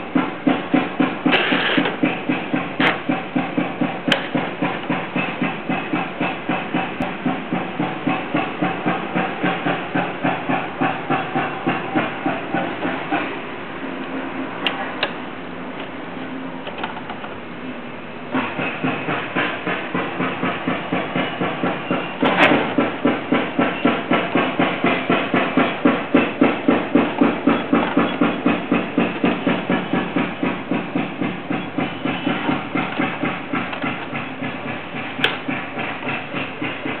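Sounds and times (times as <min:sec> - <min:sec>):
machine chugging: 0:00.0 - 0:14.6, 0:18.2 - 0:37.0.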